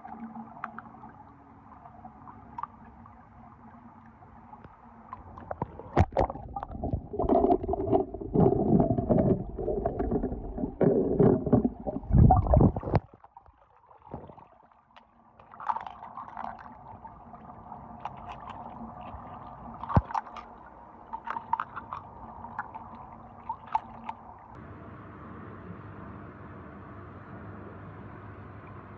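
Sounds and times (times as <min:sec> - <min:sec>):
water sloshing underwater: 0:00.0 - 0:24.6.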